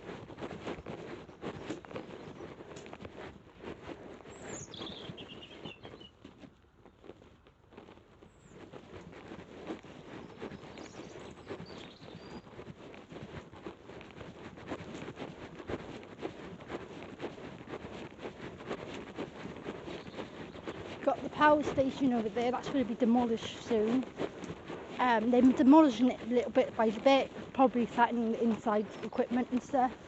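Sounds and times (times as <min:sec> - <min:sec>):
patter and rustling while walking: 0:00.0 - 0:30.0.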